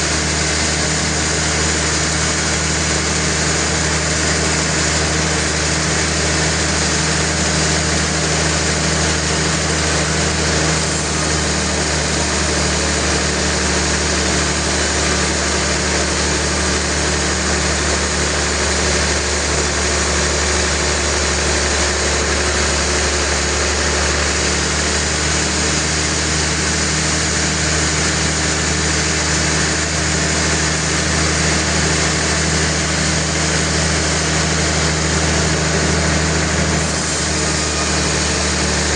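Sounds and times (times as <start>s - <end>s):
engine hum: 0.0s - 38.9s
sawmill machinery whirring: 0.0s - 38.9s.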